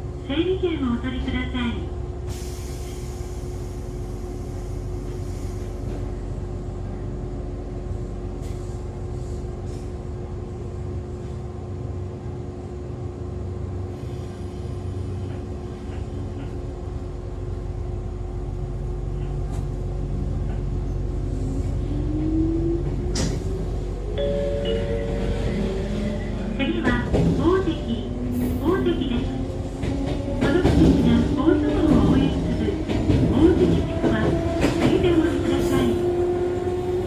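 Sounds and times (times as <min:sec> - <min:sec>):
train interior hum: 0:00.0 - 0:37.0.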